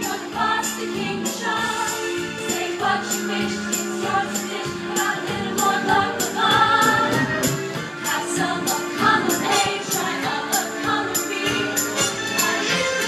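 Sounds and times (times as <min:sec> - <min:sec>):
choir singing in harmony: 0:00.0 - 0:13.0
music with steady beat: 0:00.0 - 0:13.0
tambourine-like jingle: 0:00.0 - 0:13.0.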